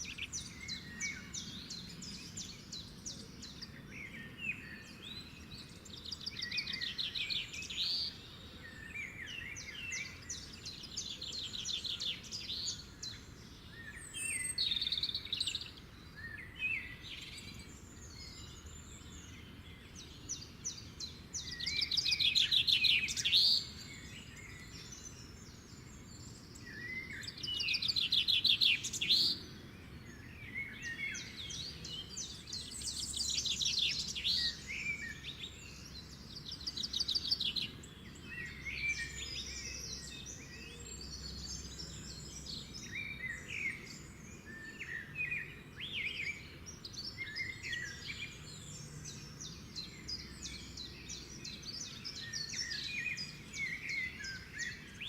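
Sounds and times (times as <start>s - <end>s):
low background noise: 0.0s - 55.0s
songbirds trilling: 0.0s - 55.0s.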